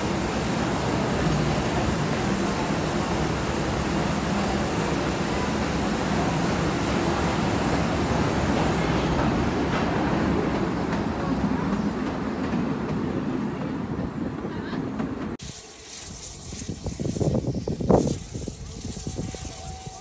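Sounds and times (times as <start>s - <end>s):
small steam locomotive running: 0.0s - 12.6s, 15.4s - 20.0s.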